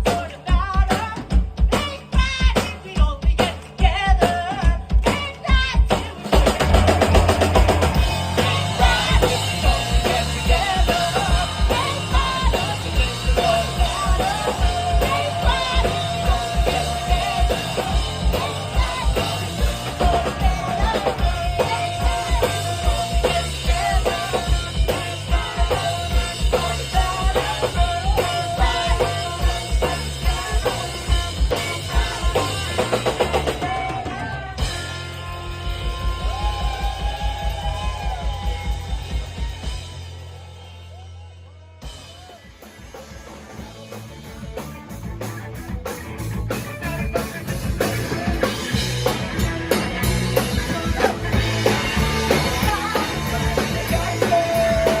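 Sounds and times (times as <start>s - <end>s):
punk rock band with singing: 0.0s - 55.0s.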